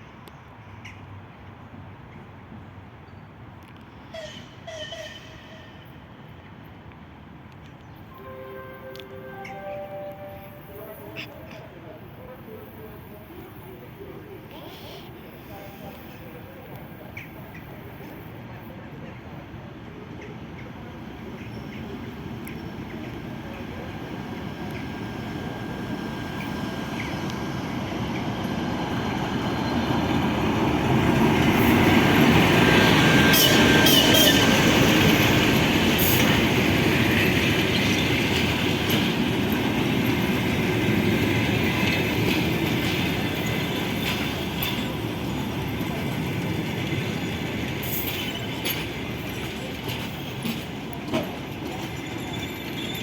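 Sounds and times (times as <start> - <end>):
train passing rumble: 0.0 - 53.0.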